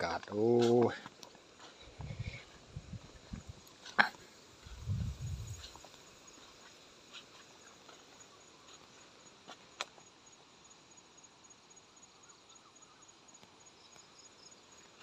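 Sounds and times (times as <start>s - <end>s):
high insect chirping: 0.0s - 15.0s.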